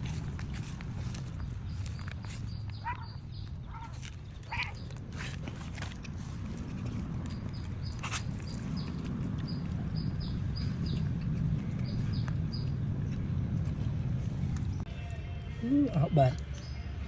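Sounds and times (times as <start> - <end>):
small bird chirping: 0.0 - 13.8
steady low rumble: 0.0 - 17.0.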